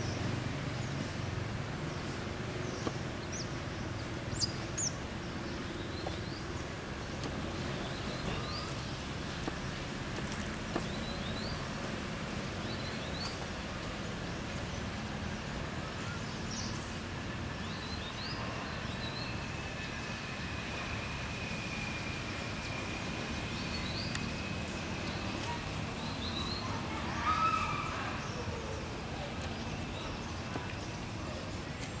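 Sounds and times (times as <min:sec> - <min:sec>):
thin steady whine: 0:03.1 - 0:32.0.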